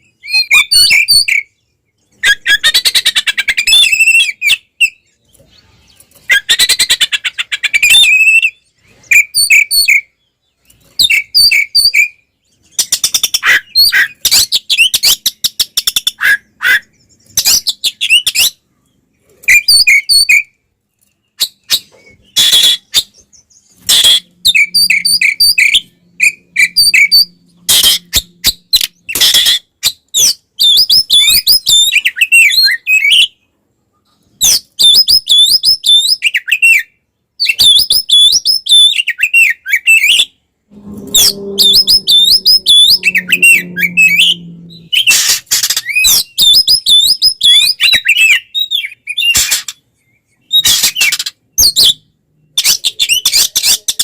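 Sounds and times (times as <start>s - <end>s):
bird song harsh calls and whistles: 0.0s - 33.4s, 34.4s - 54.0s.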